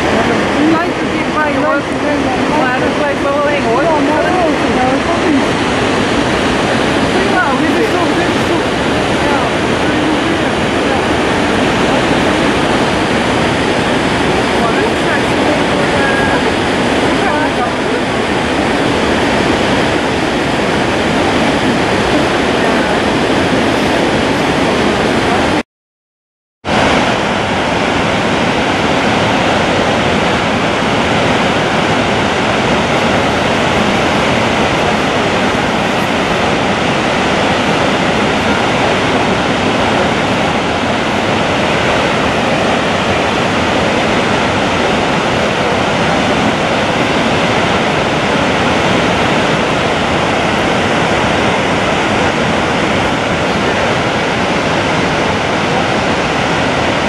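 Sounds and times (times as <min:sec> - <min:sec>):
waterfall rushing: 0:00.0 - 0:25.6, 0:26.6 - 0:57.0.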